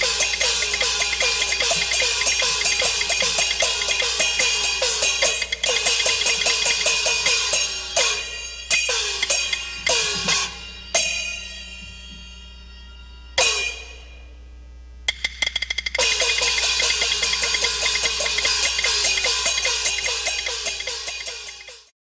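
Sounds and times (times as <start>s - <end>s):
gongs cymbals and drum: 0.0s - 11.8s, 13.4s - 14.1s, 15.1s - 21.9s
cymbal crashes ringing: 0.0s - 14.3s, 16.0s - 21.2s.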